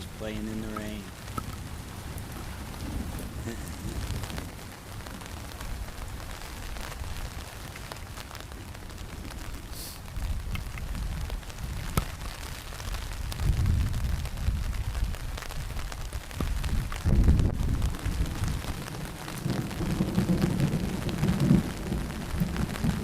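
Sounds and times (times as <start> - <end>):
rain pattering on a tarp: 0.0 - 23.0.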